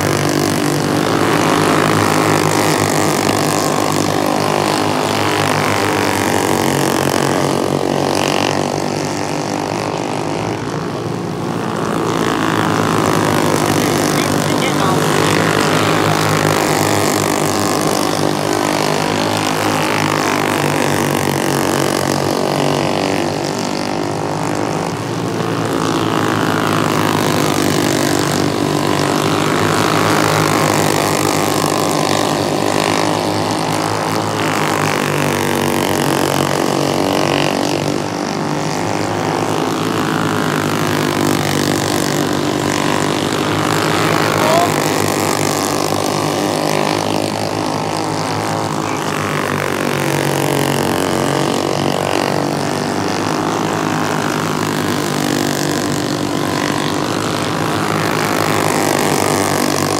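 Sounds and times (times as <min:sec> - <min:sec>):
go-kart engines racing: 0:00.0 - 0:59.9.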